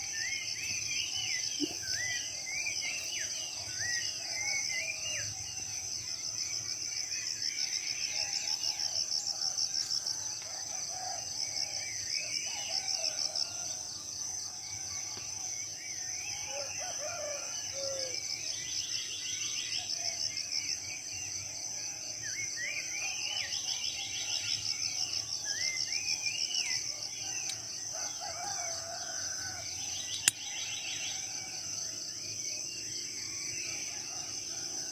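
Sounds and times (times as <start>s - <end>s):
pulsing insect drone: 0.0s - 34.9s.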